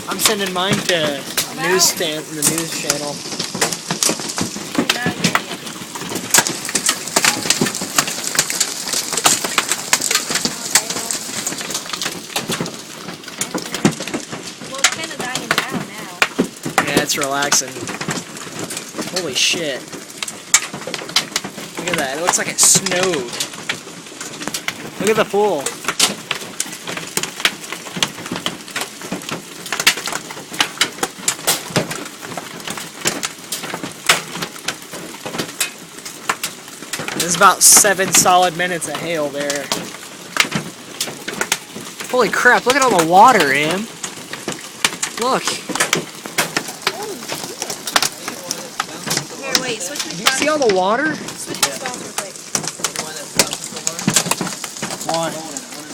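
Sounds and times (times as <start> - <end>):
hailstones clattering on hard surfaces: 0.0 - 55.9
hiss of falling hail and rain: 0.0 - 55.9.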